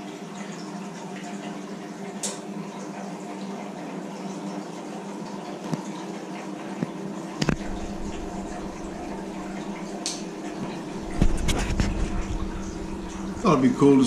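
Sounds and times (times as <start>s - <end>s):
filter pump hum: 0.0s - 14.0s
water running and burbling: 0.0s - 14.0s.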